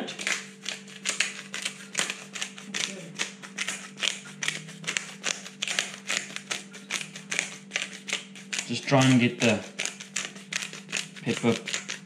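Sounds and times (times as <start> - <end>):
pepper grinder rasping: 0.0 - 12.0.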